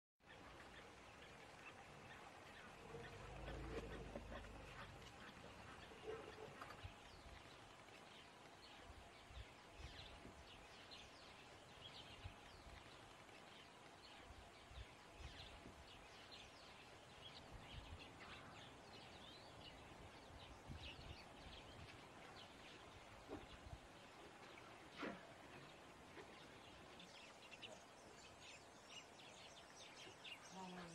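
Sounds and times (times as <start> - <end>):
small birds chirping: 0.2 - 30.9.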